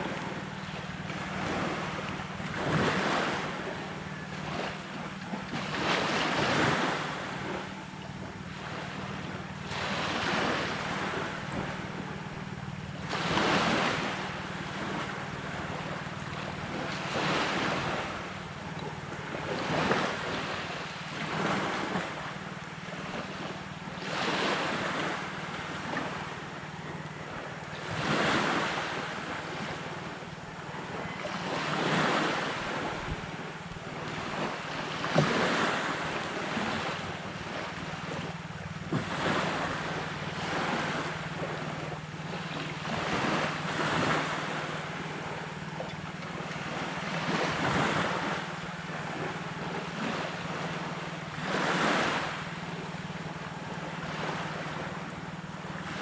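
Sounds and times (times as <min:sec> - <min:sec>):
sea waves breaking on a beach: 0:00.0 - 0:56.0
steady low hum: 0:00.0 - 0:56.0.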